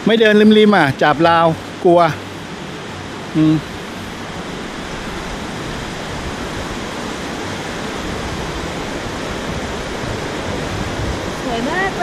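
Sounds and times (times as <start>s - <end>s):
river rapids roaring: 0.0s - 12.0s.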